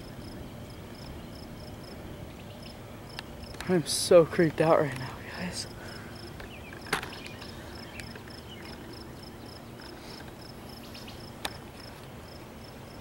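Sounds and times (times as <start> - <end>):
insect chirping in high pulses: 0.0 - 13.0.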